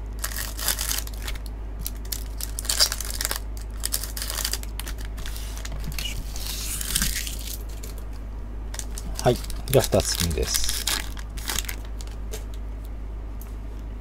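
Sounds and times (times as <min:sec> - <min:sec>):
foil wrappers crinkling: 0:00.2 - 0:08.1, 0:08.7 - 0:12.5.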